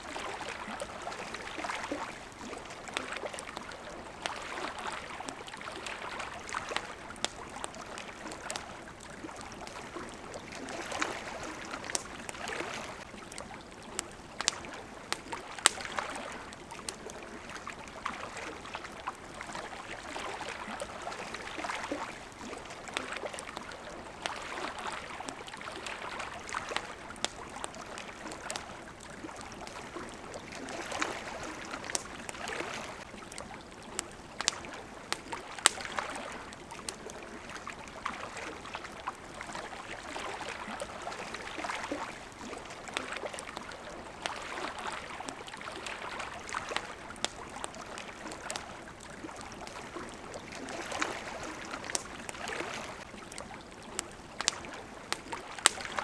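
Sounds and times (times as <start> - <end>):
campfire crackling and popping: 0.0 - 56.0
water lapping at shore: 0.0 - 56.0.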